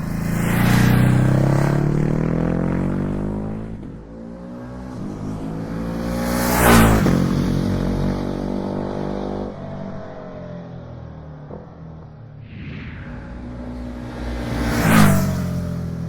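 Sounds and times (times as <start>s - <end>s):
motorcycle engine revving: 0.0s - 9.5s, 12.4s - 16.0s.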